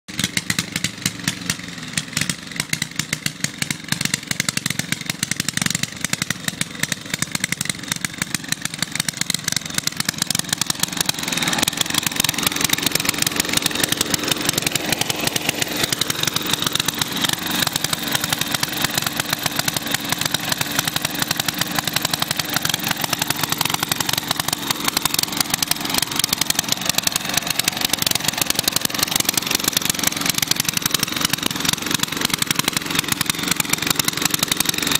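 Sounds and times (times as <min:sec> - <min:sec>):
lawn mower engine running: 0:00.1 - 0:34.9.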